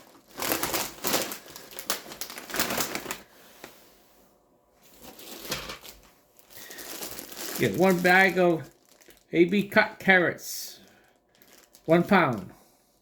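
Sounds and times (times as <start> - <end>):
plastic bag crinkling: 0.0 - 3.3, 4.8 - 12.5.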